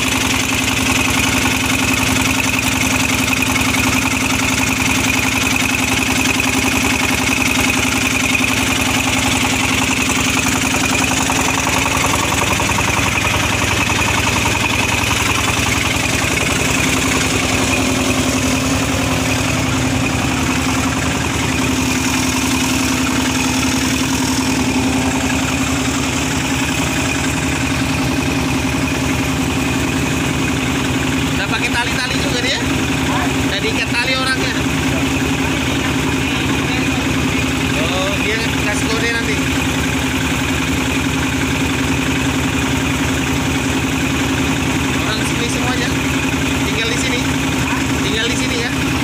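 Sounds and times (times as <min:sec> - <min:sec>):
small engine running steadily: 0:00.0 - 0:49.0.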